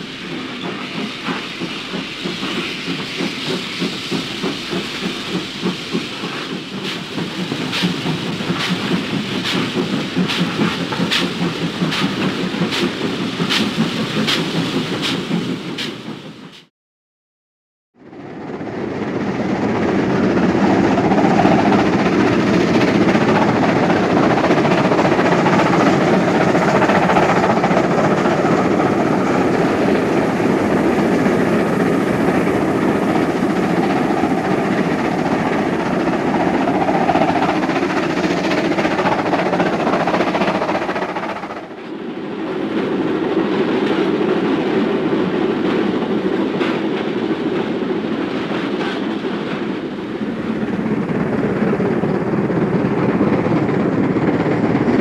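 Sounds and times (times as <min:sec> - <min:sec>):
steam locomotive working hard: 0:00.0 - 0:16.7, 0:18.1 - 0:55.0.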